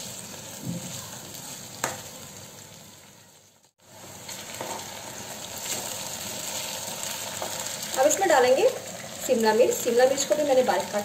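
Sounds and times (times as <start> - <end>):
onion and potato sizzling in oil: 0.0 - 11.0.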